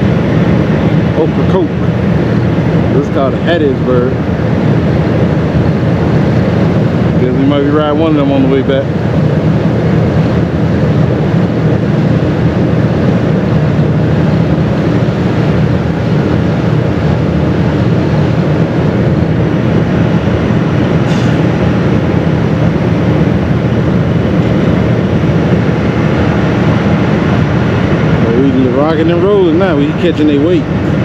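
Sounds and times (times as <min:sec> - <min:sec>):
ferry engine rumble: 0:00.0 - 0:31.0
wind on microphone: 0:00.0 - 0:31.0.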